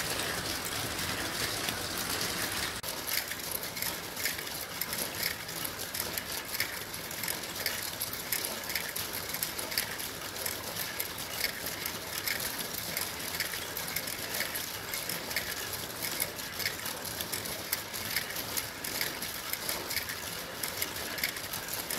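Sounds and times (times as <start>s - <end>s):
marbles rattling on plastic track: 0.0s - 21.9s.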